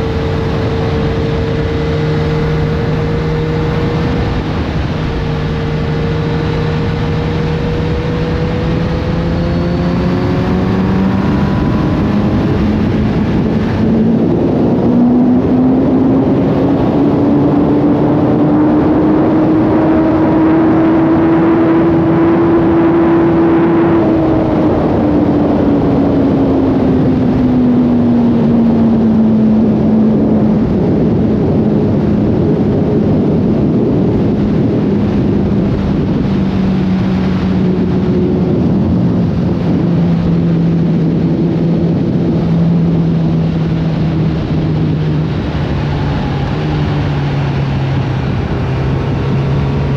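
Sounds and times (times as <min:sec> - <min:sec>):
motorcycle engine running: 0:00.0 - 0:49.9
steady rush of noise: 0:00.0 - 0:49.9.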